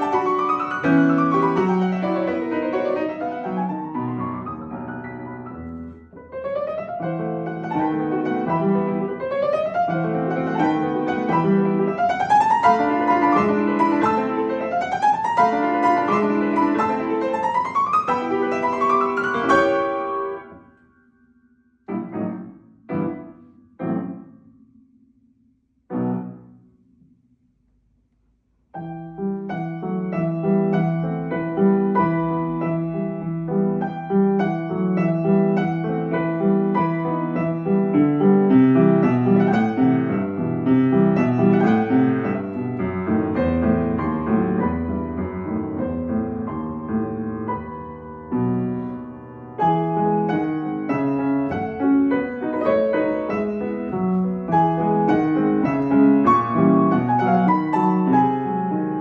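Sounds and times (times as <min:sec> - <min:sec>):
piano playing: 0:00.0 - 0:21.2, 0:21.8 - 0:25.1, 0:25.9 - 0:26.7, 0:28.8 - 0:59.0.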